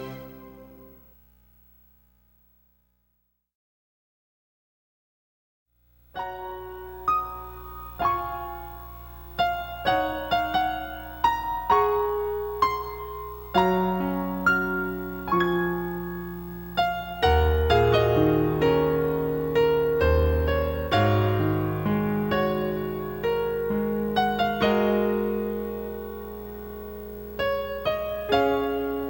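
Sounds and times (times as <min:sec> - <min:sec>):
piano bass notes: 0:00.0 - 0:01.0, 0:06.4 - 0:29.0
slow piano melody: 0:00.0 - 0:01.0, 0:06.2 - 0:29.0.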